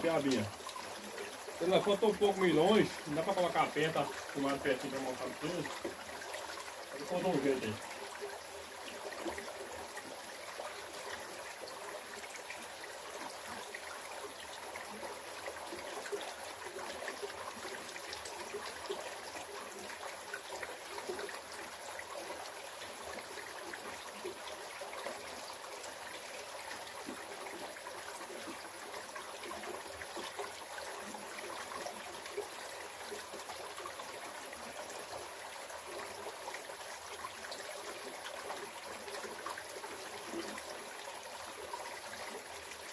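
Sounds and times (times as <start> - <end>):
river water running over rocks: 0.0 - 42.9.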